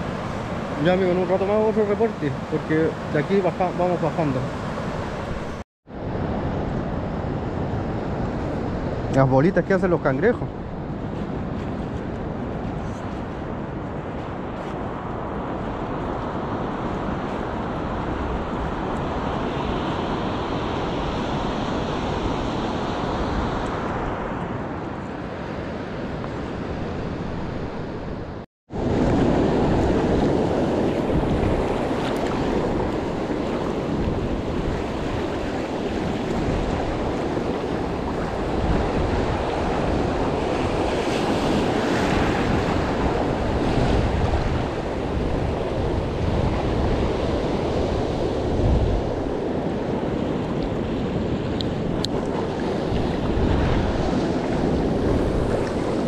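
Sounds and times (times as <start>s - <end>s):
ocean surf washing on shore: 0.0s - 56.0s
wind buffeting microphone: 4.7s - 56.0s.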